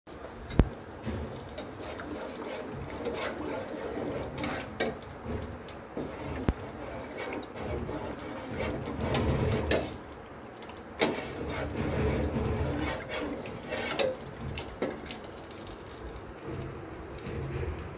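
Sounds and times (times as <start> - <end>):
spoon stirring liquid in a pot: 0.1 - 17.9.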